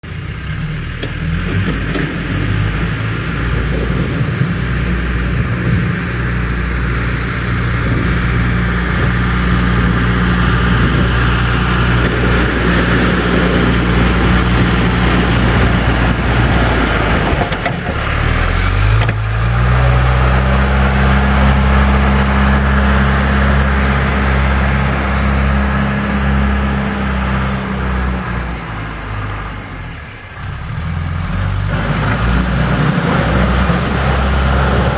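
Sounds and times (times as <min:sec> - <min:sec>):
diesel engine under load: 0:00.0 - 0:34.9.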